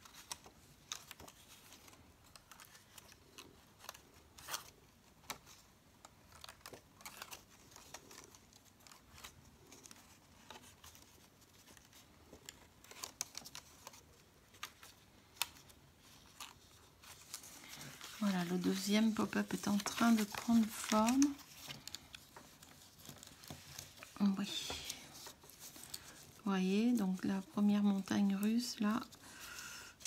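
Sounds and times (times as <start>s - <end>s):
card clicks and crinkles: 0.0s - 30.0s
faint paper rustling: 0.0s - 30.0s.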